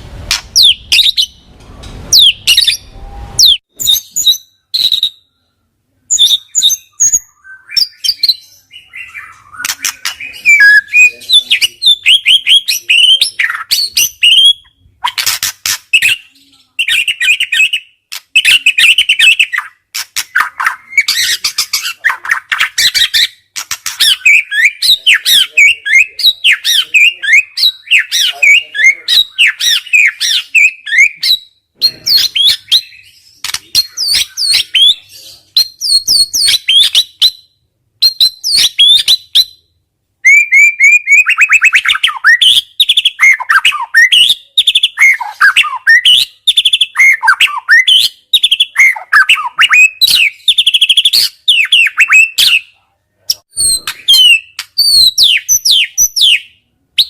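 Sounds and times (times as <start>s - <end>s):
bird singing rapid song: 0.3s - 1.5s, 2.1s - 57.0s.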